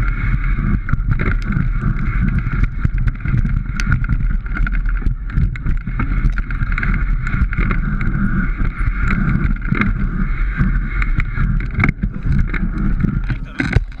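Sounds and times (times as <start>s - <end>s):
bike rattling over rocks: 0.0s - 14.0s
wind rush on microphone: 0.0s - 14.0s.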